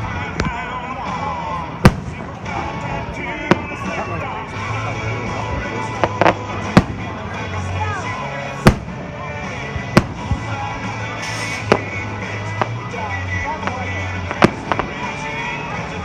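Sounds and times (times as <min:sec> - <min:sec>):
fireworks bangs: 0:00.0 - 0:16.0
show music: 0:00.0 - 0:16.0.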